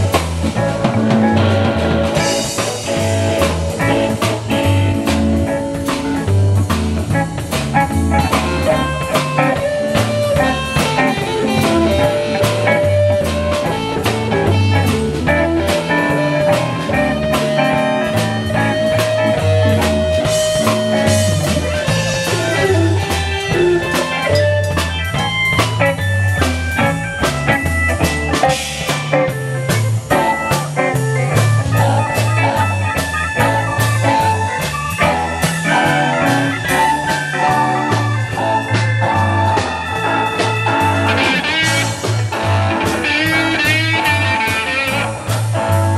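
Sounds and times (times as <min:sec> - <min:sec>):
blues band playing: 0:00.0 - 0:45.9.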